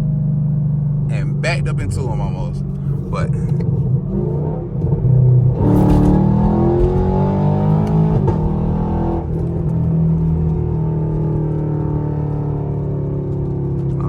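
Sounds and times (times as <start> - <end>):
car exhaust under hard pull: 2.5 - 14.0.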